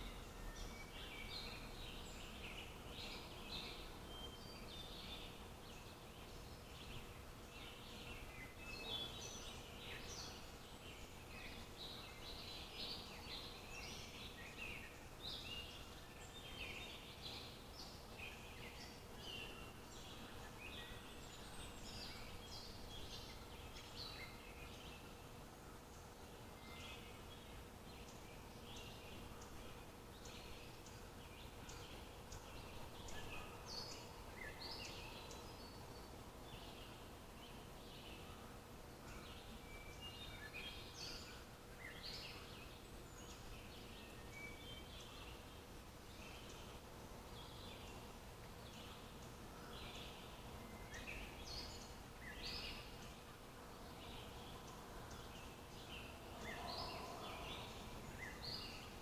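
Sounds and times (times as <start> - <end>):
faint background hiss: 0.0 - 59.0
small birds chirping and trilling: 0.0 - 59.0.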